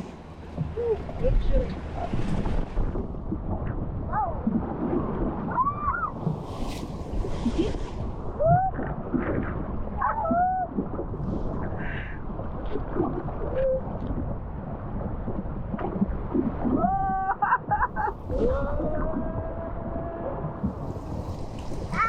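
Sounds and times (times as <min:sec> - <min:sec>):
wind on microphone rumble: 0:00.0 - 0:22.0.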